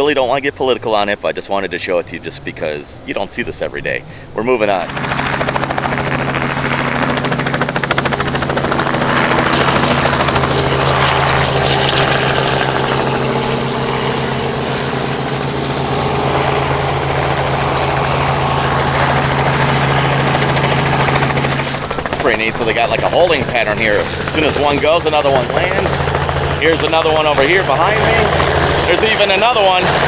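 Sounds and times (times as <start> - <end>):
helicopter rotor beating: 4.5 - 30.0
helicopter engine hum: 4.6 - 30.0.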